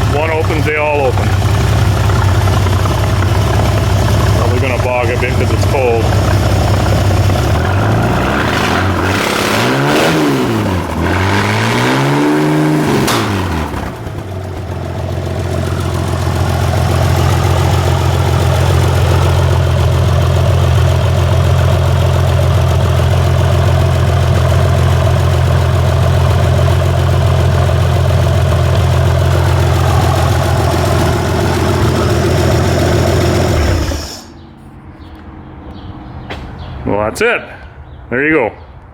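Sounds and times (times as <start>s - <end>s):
engine revving and idling: 0.0s - 34.4s.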